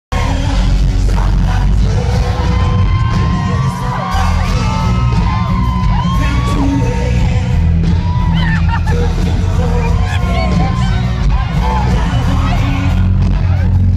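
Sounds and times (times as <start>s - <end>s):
man singing into a microphone: 0.1s - 13.9s
rock band playing live: 0.1s - 13.9s
crowd whooping and yelling: 0.2s - 13.9s.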